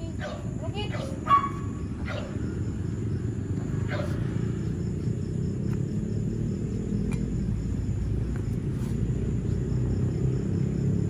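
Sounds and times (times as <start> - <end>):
constant low rumble: 0.0 - 10.8
crickets chirping: 0.0 - 11.0.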